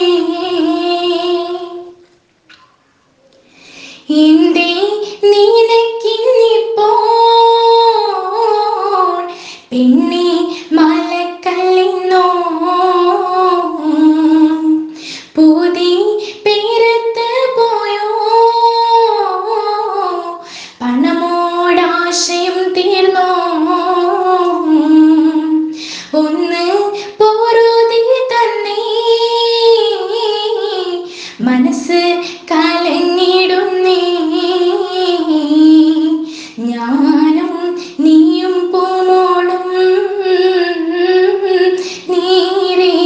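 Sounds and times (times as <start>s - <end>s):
woman singing: 0.0s - 2.0s, 4.0s - 43.0s.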